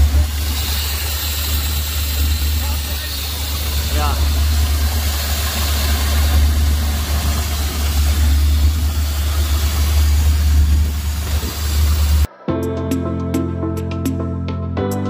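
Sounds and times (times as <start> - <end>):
car engine idling: 0.0 - 12.3.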